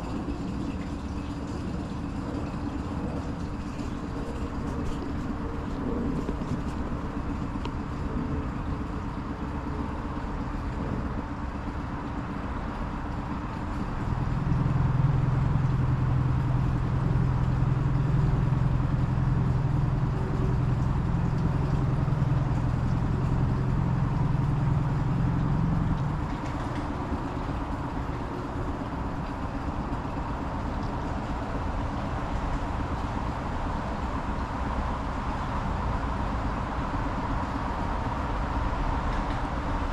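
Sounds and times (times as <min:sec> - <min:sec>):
outboard motor humming: 0:00.0 - 0:39.9.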